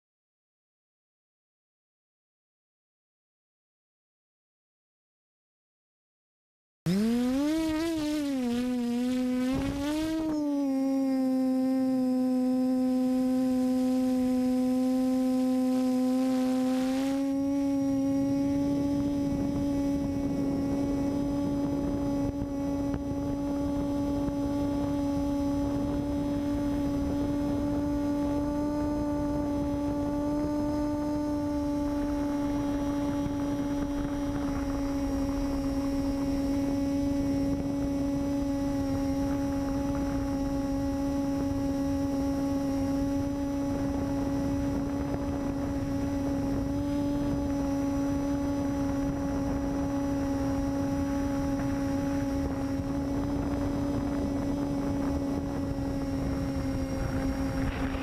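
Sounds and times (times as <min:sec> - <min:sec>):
electric aircraft motor buzzing: 0:06.9 - 0:58.0
wind rumble: 0:07.2 - 0:58.0.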